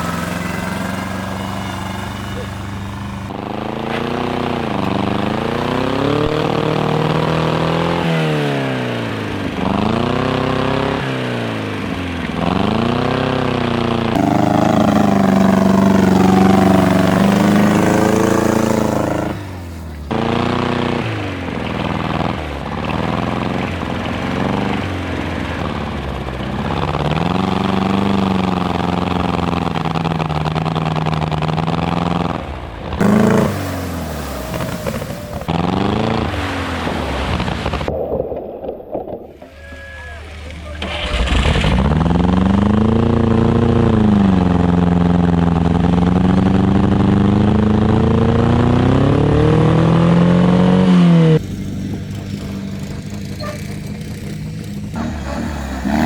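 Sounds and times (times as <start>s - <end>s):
tractor engines revving: 0.0s - 38.0s, 39.0s - 56.0s.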